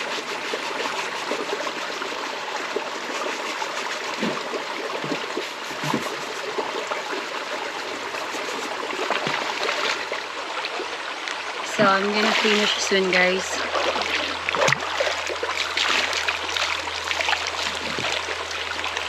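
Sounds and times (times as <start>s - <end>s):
river water trickling: 0.0s - 19.0s
water gurgles: 0.0s - 19.0s.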